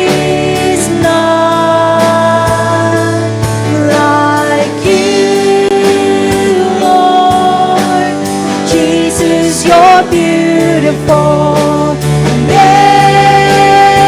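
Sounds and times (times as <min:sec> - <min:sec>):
person singing wordless vocals: 0:00.0 - 0:14.0
worship band playing: 0:00.0 - 0:14.0.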